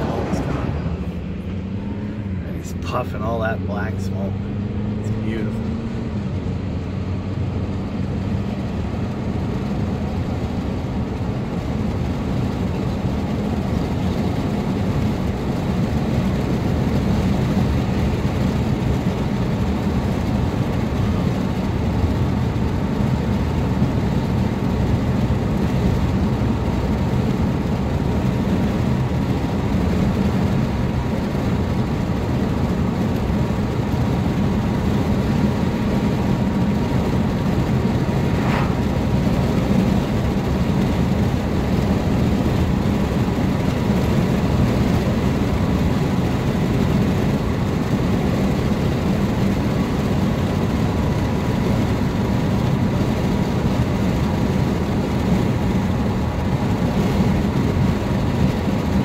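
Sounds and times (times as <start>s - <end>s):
diesel locomotive engine rumbling: 0.0s - 59.0s.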